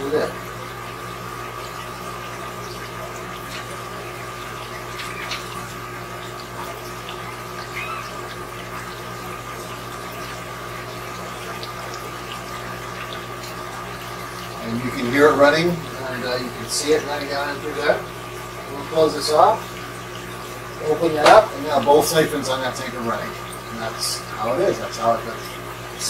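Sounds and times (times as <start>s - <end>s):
electrical hum: 0.0s - 26.0s
water running through drain pipes: 0.0s - 26.0s.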